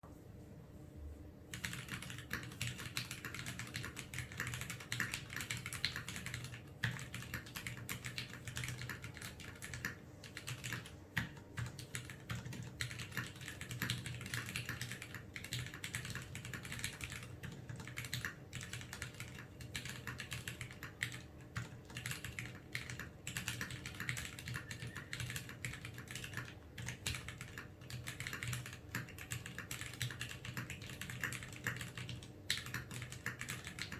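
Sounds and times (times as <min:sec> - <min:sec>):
mechanical keyboard typing: 0:01.5 - 0:33.9.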